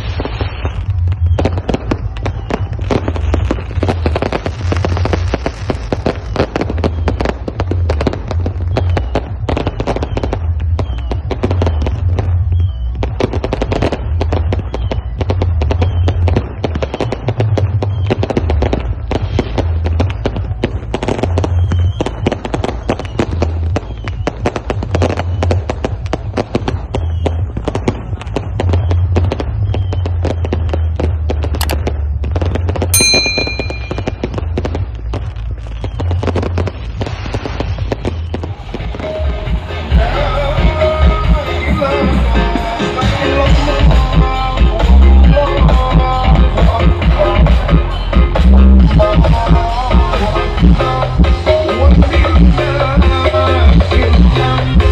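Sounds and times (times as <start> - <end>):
heavy bass beat: 0.0 - 23.8, 24.4 - 54.9
firecrackers crackling: 0.0 - 54.9.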